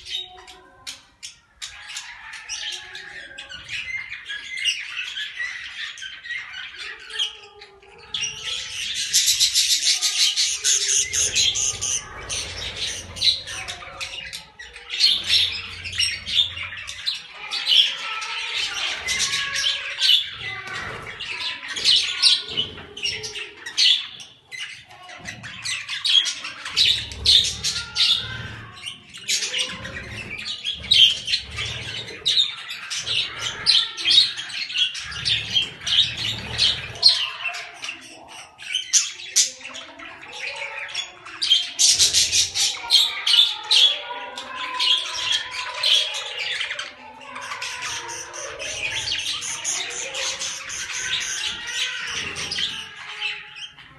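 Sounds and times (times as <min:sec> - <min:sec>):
budgerigars chirping: 0:01.3 - 0:53.8.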